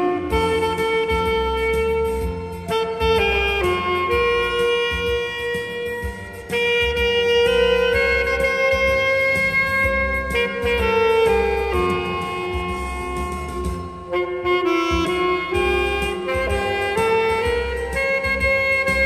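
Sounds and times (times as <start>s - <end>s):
backing track with bass and beat: 0.0s - 19.0s
saxophone playing slow melody: 0.0s - 19.0s.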